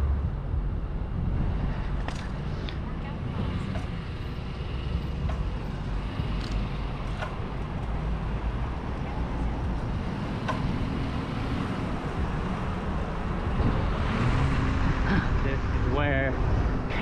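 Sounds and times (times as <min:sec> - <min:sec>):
road noise from bicycle: 0:00.0 - 0:17.0
wind noise: 0:00.0 - 0:17.0.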